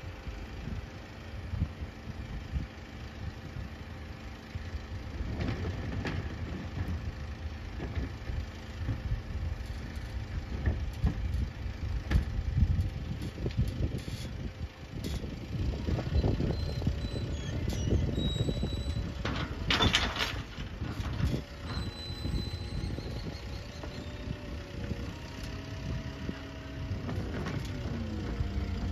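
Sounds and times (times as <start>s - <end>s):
garbage truck engine idling: 2.3s - 28.9s.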